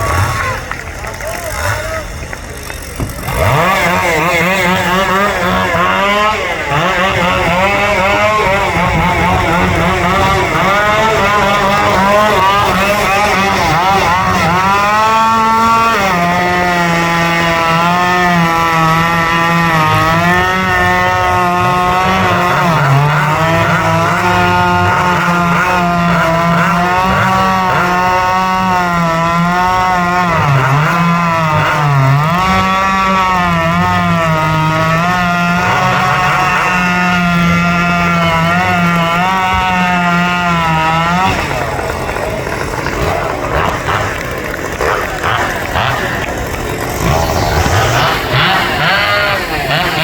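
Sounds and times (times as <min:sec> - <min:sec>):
chainsaw whining at high revs: 0:00.0 - 0:50.0.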